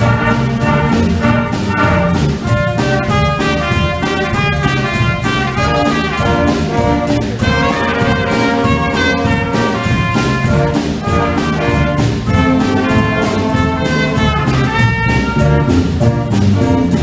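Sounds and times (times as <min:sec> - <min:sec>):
brass sustained notes: 0:00.0 - 0:16.9
drum and cymbal beat: 0:00.0 - 0:17.0.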